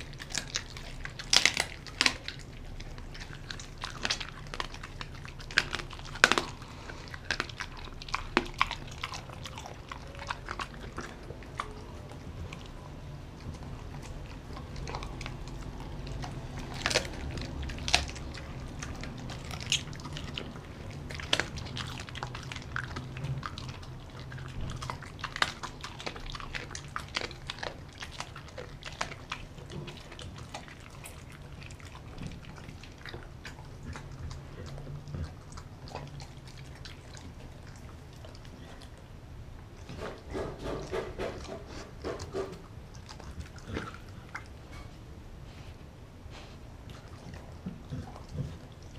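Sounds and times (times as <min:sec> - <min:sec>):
dog chewing meat: 0:00.0 - 0:45.6, 0:46.3 - 0:48.9.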